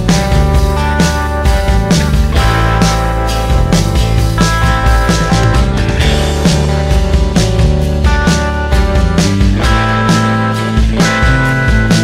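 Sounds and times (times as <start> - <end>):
music with sustained chords and beat: 0.0 - 12.0.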